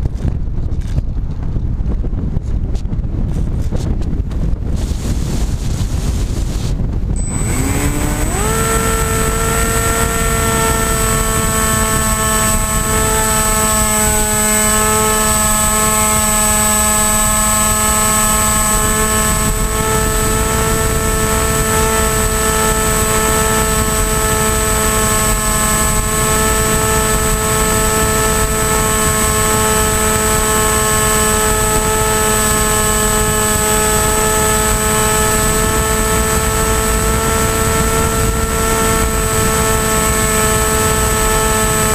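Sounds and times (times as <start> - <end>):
wind rushing: 0.0 - 41.9
electric motor propeller whine: 4.7 - 41.9.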